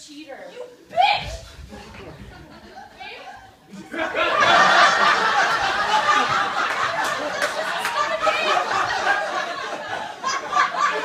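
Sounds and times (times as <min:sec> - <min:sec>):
audience laughing loudly: 0:01.5 - 0:11.0.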